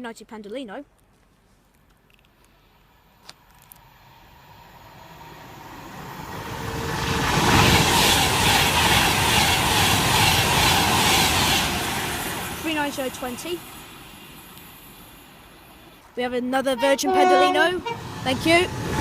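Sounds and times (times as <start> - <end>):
electric train passing at speed: 2.6 - 19.0.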